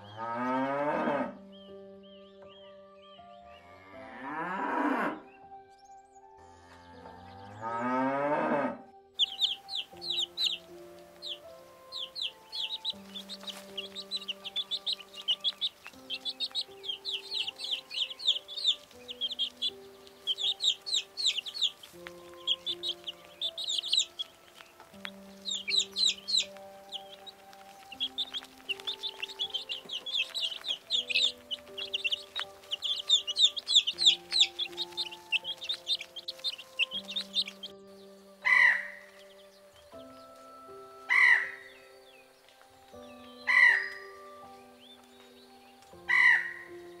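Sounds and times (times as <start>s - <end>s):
soft background music: 0.0s - 47.0s
baby chicks peeping: 1.3s - 3.3s, 9.2s - 47.0s.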